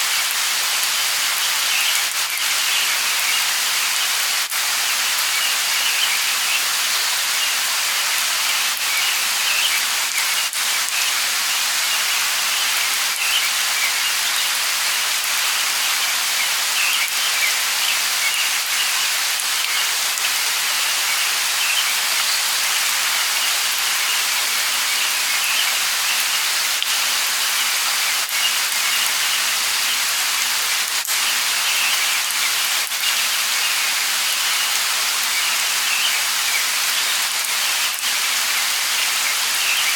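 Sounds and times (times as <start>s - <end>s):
light rain patter: 0.0s - 39.9s.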